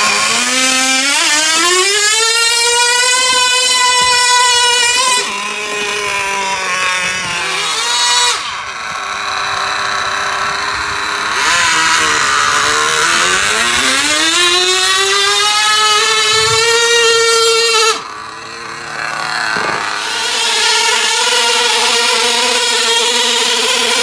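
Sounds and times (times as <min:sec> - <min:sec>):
electric motor whining under load: 0:00.0 - 0:24.0.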